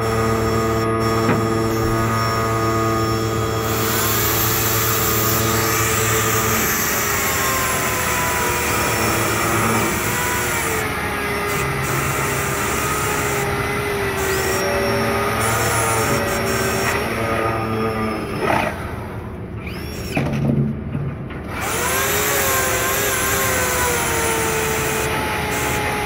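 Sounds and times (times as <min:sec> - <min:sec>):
electric saw cutting fish: 0:00.0 - 0:19.1, 0:21.5 - 0:26.0.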